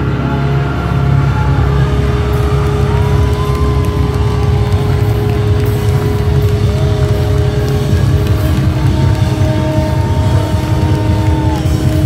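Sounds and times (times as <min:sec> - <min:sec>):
live metal band playing: 0:00.0 - 0:12.0.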